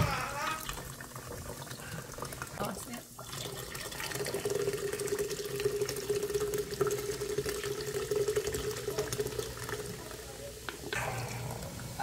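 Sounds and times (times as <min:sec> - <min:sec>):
soda pouring into metal canister: 0:00.4 - 0:10.4.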